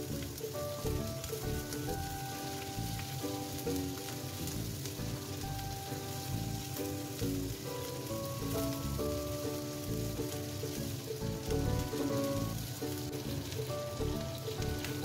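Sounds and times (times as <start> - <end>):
background music: 0.0 - 15.0
fish sizzling in oil: 0.0 - 15.0.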